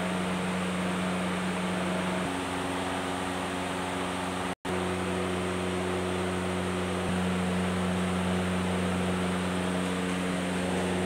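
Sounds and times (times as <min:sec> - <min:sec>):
fan rushing noise: 0:00.0 - 0:11.0
refrigerator compressor hum: 0:00.0 - 0:11.0.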